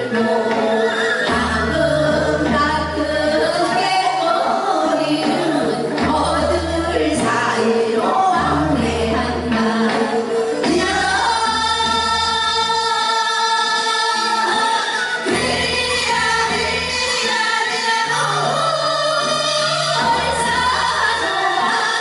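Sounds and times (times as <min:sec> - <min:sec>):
women singing folk song: 0:00.0 - 0:22.0.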